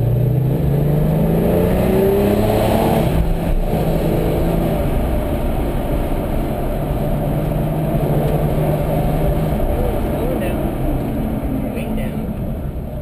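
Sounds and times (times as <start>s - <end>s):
car engine accelerating: 0.0s - 13.0s
road and wind rumble: 0.0s - 13.0s.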